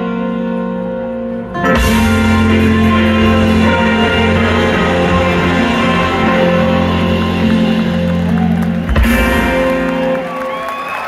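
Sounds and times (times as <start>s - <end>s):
rock band playing live: 0.0s - 11.0s.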